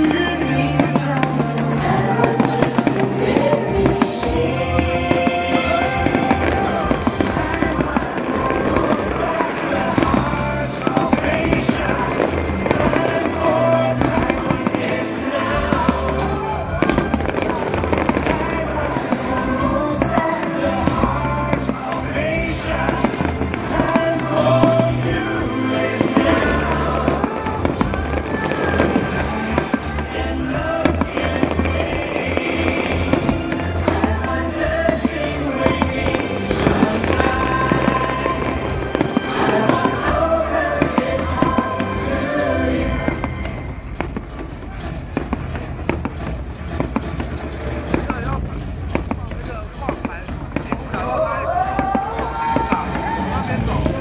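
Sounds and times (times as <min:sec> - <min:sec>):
fireworks bangs: 0:00.0 - 0:54.0
music playing: 0:00.0 - 0:54.0.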